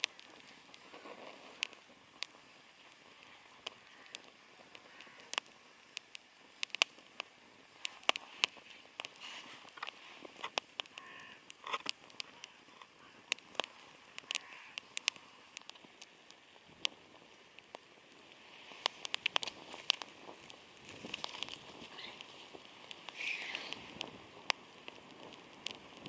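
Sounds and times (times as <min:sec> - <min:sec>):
campfire crackling and popping: 0:00.0 - 0:26.0
faint hiss: 0:00.0 - 0:26.0.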